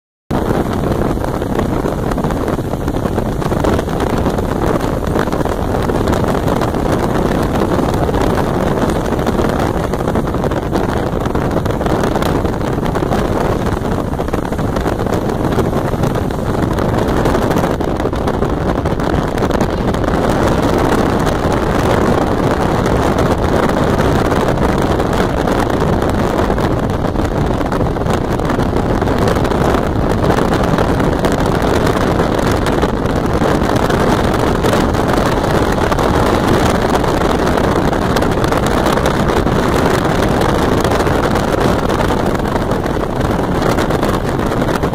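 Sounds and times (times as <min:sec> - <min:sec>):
car road noise: 0:00.3 - 0:44.9
wind buffeting microphone: 0:00.3 - 0:44.9.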